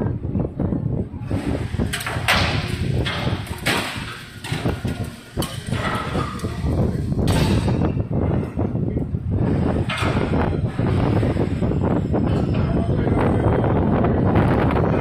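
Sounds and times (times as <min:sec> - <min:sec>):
crane machinery rumble: 0:00.0 - 0:15.0.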